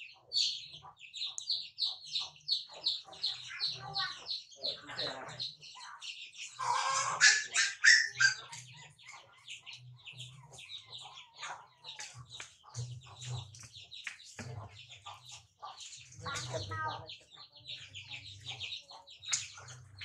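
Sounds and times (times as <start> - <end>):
chickens clucking: 0.0 - 20.0
small birds chirping: 0.0 - 20.0.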